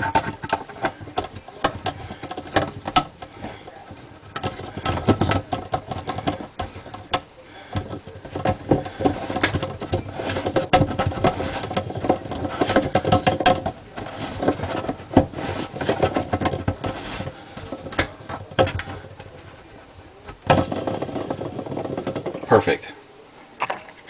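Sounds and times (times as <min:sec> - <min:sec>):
plastic clicking and rattling: 0:00.0 - 0:22.5.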